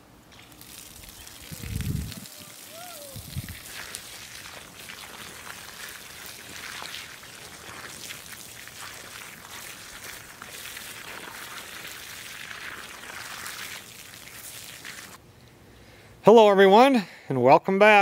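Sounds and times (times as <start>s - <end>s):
garden hose spraying water: 0.0s - 15.2s.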